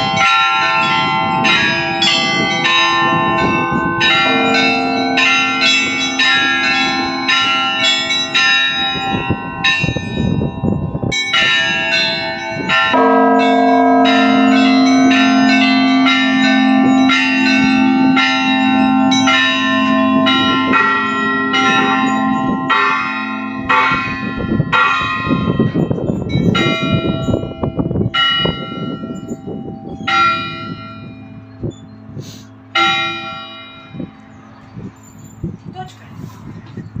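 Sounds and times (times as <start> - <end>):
deep bell hum: 0.0 - 35.7
church bells ringing: 0.0 - 37.0.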